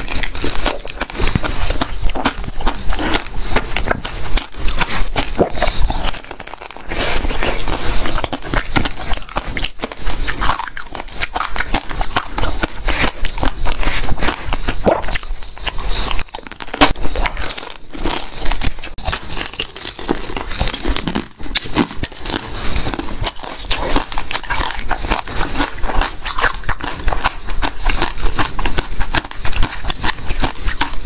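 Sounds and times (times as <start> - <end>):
crunchy chewing of frozen fruit: 0.0 - 31.0.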